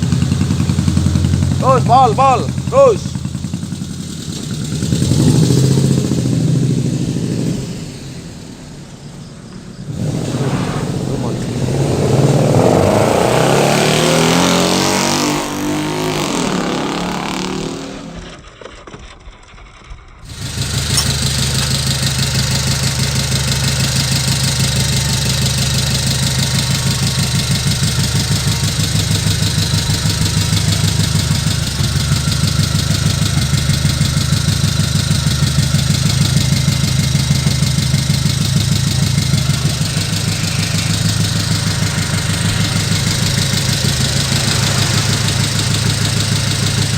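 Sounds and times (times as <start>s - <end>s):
engine revving and idling: 0.0s - 18.5s, 20.2s - 46.9s.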